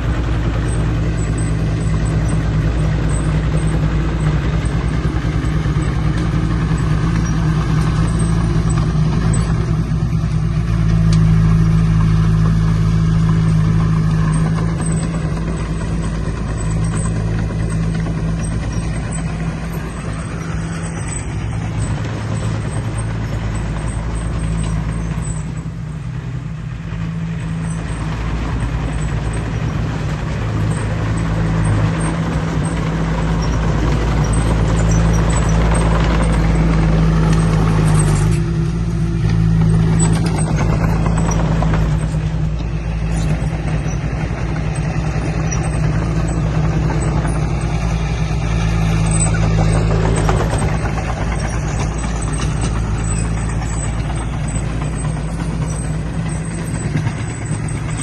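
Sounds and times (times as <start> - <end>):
heavy diesel engine drone: 0.0 - 58.0.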